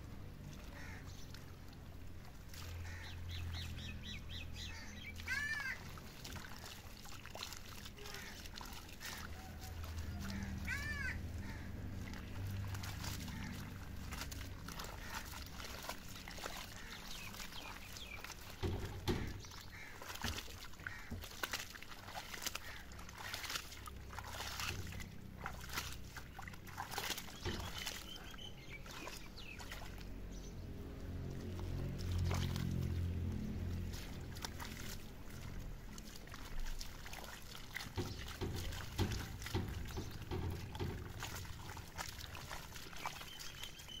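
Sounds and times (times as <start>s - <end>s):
wet clay slapping and squelching: 0.4s - 44.0s.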